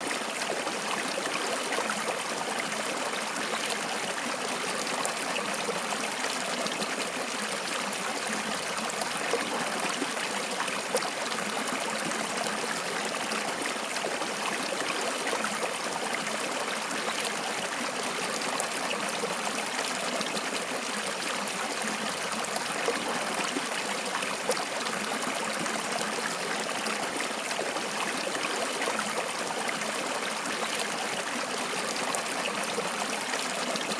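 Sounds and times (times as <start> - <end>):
stream water flowing: 0.0 - 33.9.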